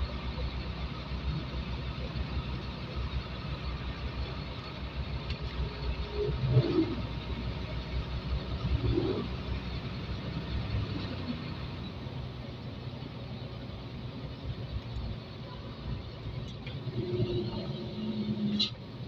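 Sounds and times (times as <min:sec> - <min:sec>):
road noise: 0:00.0 - 0:19.0
truck diesel engine rumble: 0:00.0 - 0:19.0.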